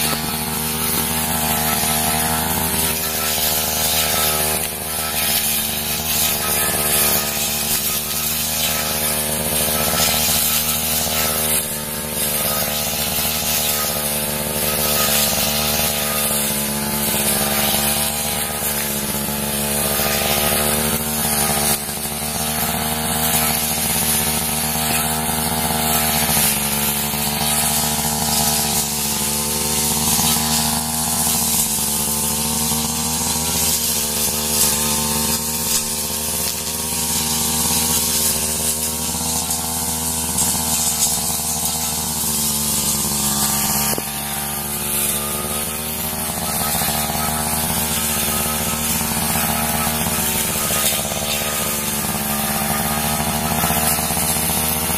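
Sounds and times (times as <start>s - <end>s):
brush cutter engine running: 0.0s - 54.9s.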